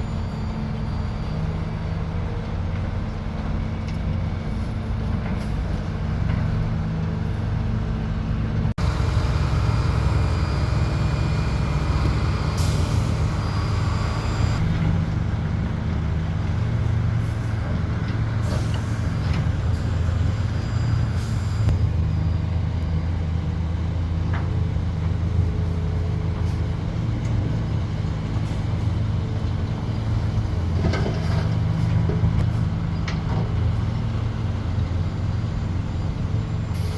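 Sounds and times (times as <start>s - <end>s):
heavy diesel engines running: 0.0s - 36.9s.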